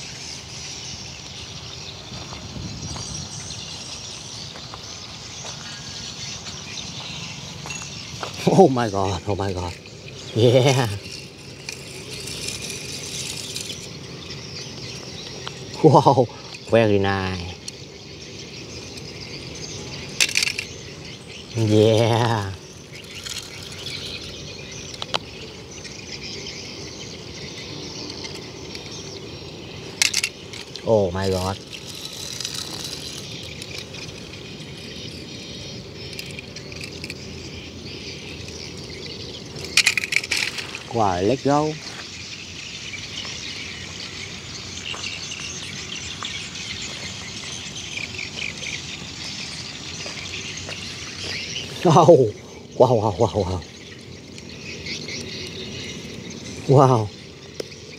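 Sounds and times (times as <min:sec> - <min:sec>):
birds chirping: 0:00.0 - 0:57.9
high-pitched outdoor background noise: 0:00.0 - 0:57.9
insects trilling: 0:00.0 - 0:57.9.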